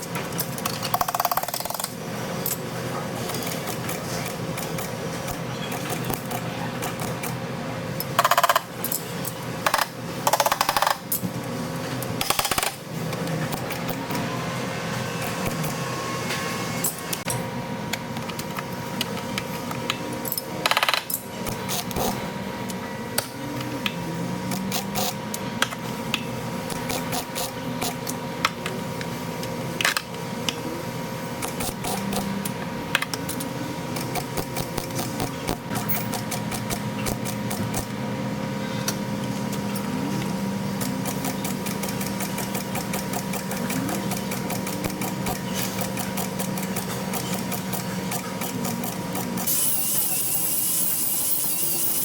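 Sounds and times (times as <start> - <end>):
steady machine hum: 0.0 - 52.0.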